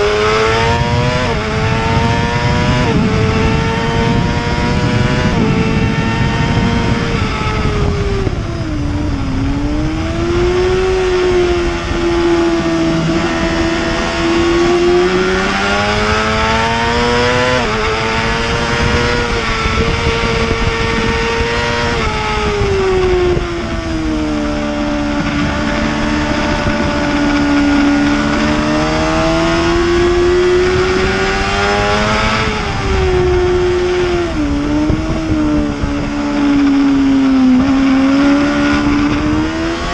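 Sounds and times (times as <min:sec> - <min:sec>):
superbike engine revving: 0:00.0 - 0:39.9
wind rushing: 0:00.0 - 0:39.9.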